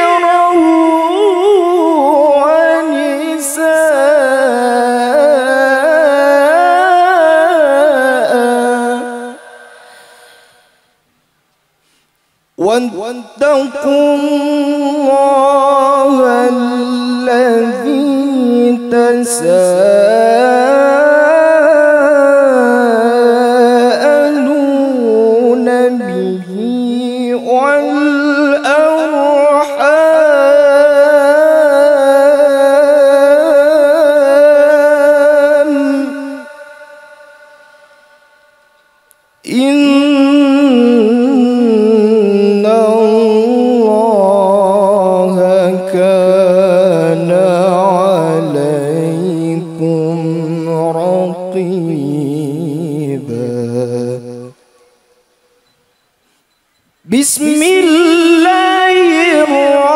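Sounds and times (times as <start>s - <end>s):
person reciting melodically: 0.0s - 10.6s, 12.6s - 38.6s, 39.4s - 55.2s, 57.0s - 59.9s.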